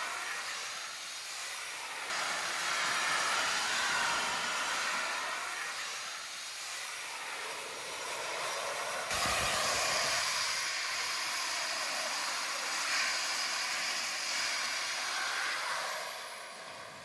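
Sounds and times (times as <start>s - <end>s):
jet turbines rushing and whining: 0.0s - 17.0s.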